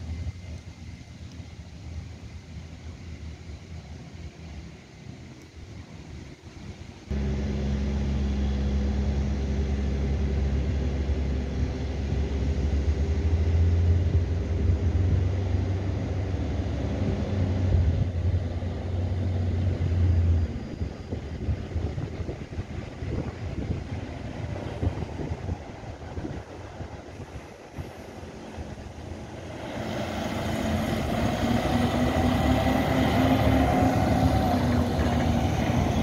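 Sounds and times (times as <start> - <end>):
tractor engine droning: 0.0 - 36.0.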